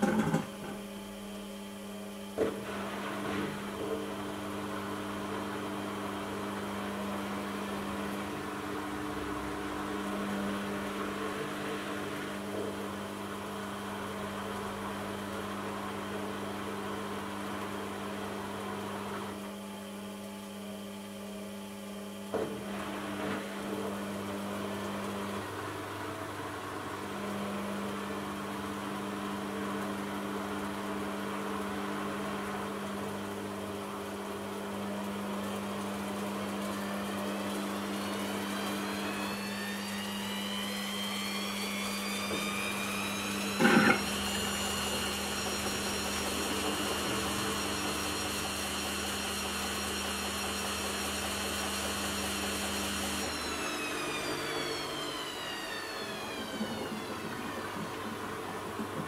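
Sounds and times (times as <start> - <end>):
washing machine motor hum: 0.0 - 59.0
washing machine spin whine: 0.0 - 59.0.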